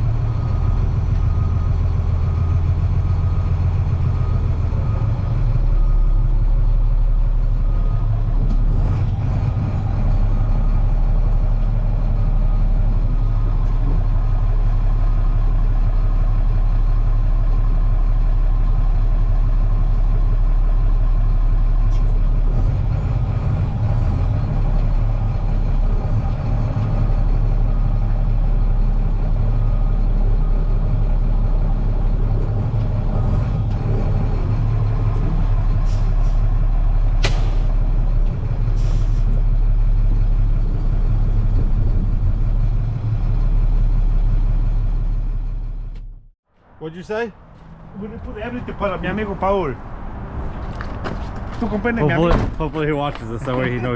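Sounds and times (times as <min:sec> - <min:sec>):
heavy diesel engine running: 0:00.0 - 0:50.2, 0:51.4 - 0:53.9.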